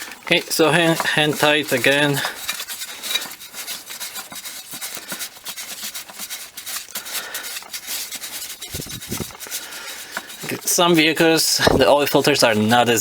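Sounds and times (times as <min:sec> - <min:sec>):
oil filter scratching on threads: 0:00.0 - 0:13.0.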